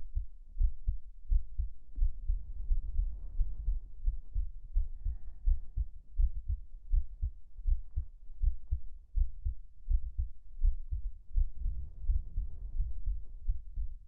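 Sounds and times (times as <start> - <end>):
heartbeat thumps: 0.0 - 14.0.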